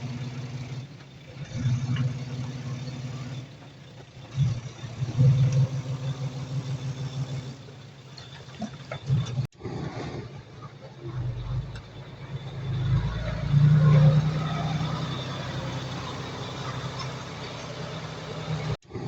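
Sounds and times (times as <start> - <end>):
heavy diesel engine running: 0.0 - 18.8.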